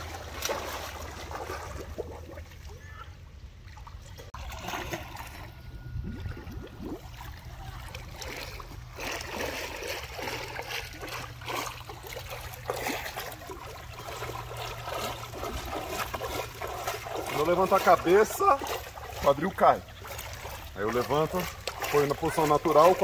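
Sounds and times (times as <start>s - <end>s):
pool water splashing: 0.0s - 23.0s.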